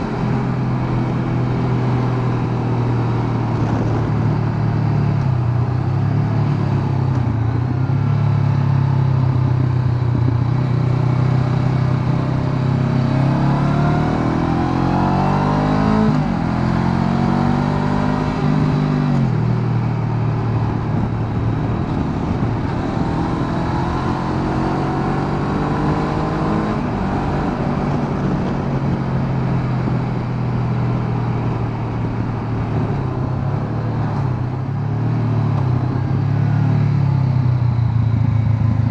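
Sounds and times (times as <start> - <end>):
wind noise: 0.0 - 8.1, 9.2 - 38.9
motorcycle engine running: 0.0 - 15.1, 16.0 - 38.9.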